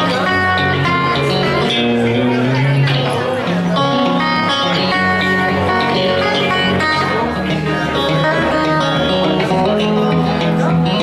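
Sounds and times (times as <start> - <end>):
blues guitar plucked notes: 0.0 - 11.0.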